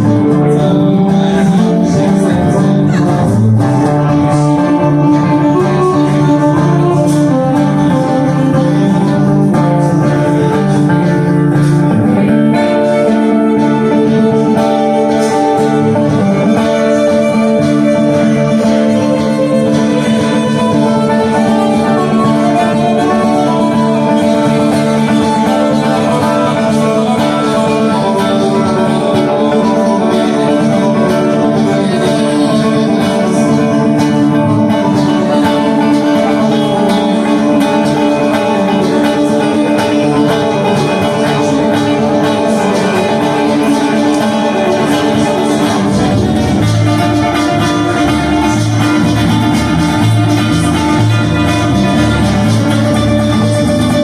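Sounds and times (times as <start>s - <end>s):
acoustic guitars picking and strumming: 0.0s - 54.0s
bass line: 0.0s - 54.0s.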